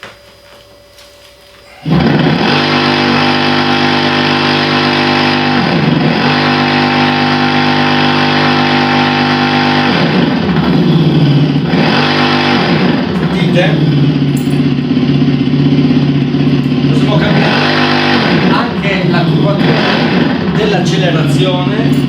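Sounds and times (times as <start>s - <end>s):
synthetic motorcycle engine sound: 1.6s - 22.0s.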